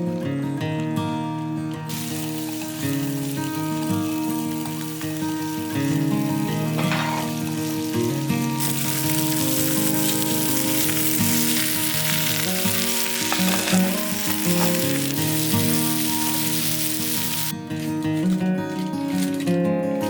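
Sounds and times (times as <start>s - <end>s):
background music: 0.1s - 17.5s
food frying sizzle: 1.9s - 17.8s, 18.6s - 19.4s.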